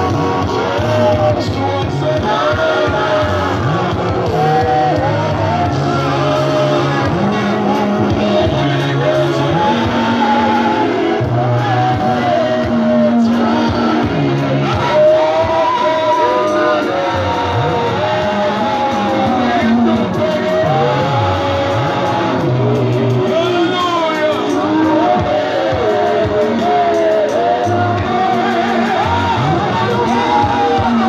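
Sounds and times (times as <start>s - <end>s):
amplified live music: 0.0s - 31.0s
held bass notes: 0.0s - 31.0s
man singing into a microphone: 0.0s - 31.0s.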